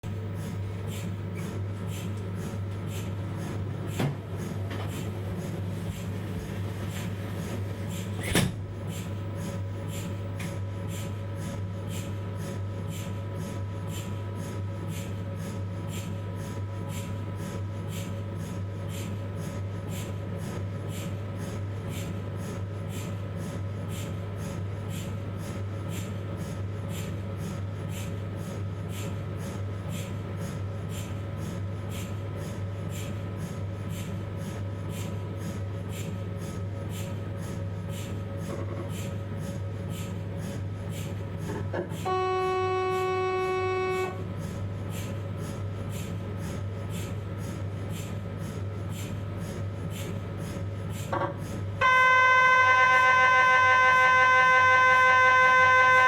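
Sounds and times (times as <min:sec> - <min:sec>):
scanner low hum: 0:00.1 - 0:56.0.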